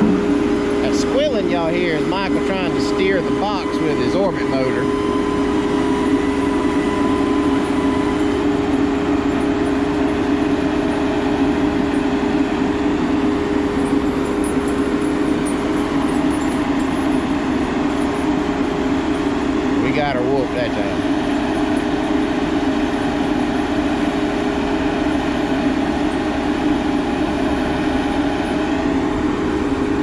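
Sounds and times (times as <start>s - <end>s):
heavy diesel equipment drone: 0.0s - 30.0s.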